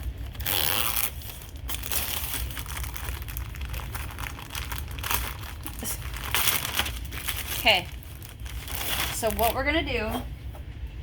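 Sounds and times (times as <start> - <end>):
plastic package crinkling: 0.0 - 9.7.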